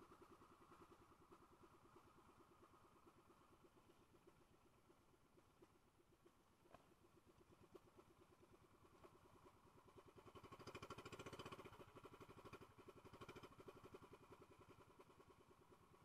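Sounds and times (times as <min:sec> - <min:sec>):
faint small boat engine: 0:00.0 - 0:16.0.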